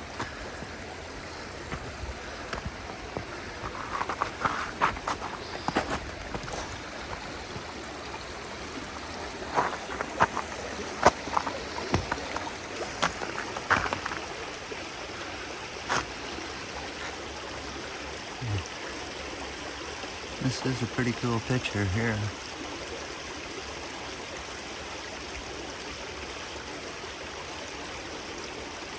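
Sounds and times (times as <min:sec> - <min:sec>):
babbling brook: 0:00.0 - 0:28.9.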